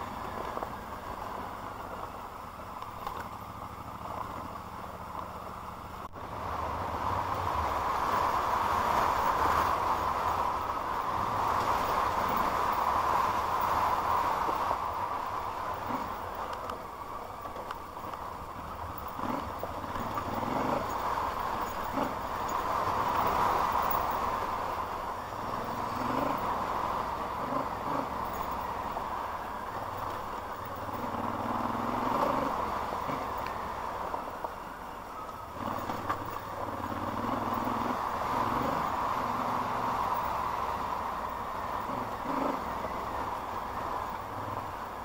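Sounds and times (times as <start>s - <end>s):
vehicle engine running low: 0.0s - 45.0s.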